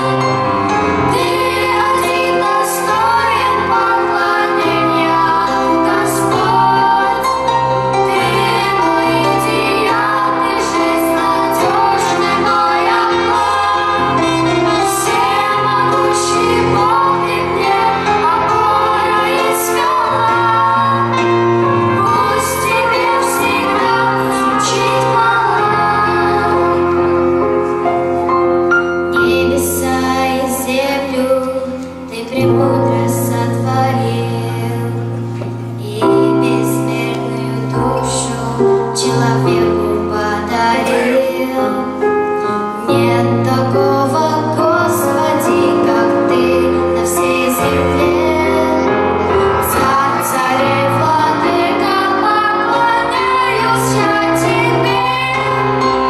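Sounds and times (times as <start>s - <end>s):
instrumental accompaniment: 0.0s - 56.0s
women singing: 0.8s - 27.8s, 29.1s - 56.0s.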